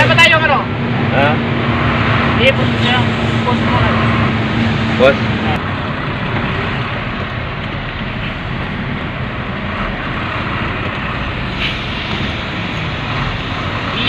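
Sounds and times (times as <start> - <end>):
traffic and cab noise: 0.0 - 14.0
truck engine running: 0.0 - 14.0.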